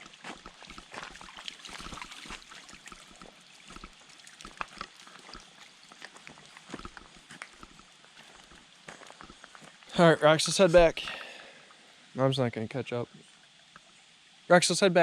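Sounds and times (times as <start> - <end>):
stream water trickling and splashing: 0.0 - 15.0.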